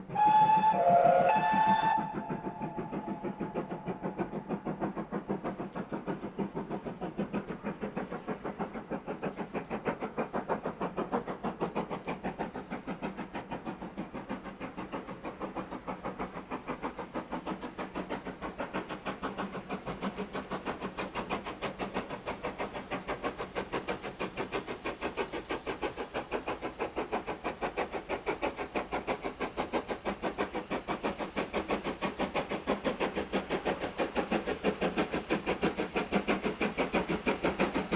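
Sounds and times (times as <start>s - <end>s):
steam locomotive exhaust beats: 0.0s - 37.9s.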